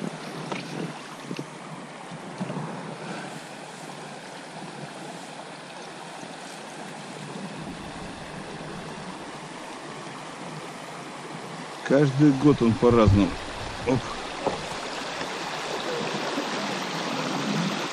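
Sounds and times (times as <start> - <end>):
water rippling over stones: 0.0 - 17.9.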